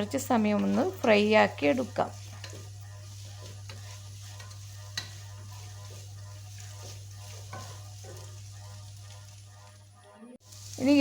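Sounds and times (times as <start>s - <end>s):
spatula scraping a pan: 0.0s - 10.8s
food sizzling in a pan: 0.0s - 11.0s.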